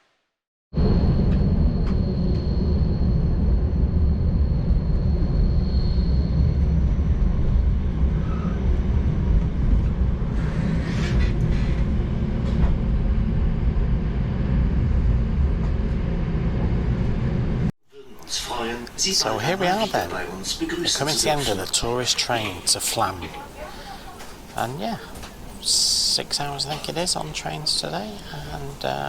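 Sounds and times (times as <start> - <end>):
thin high whine: 0.8 - 29.0
train rumbling: 0.8 - 29.0.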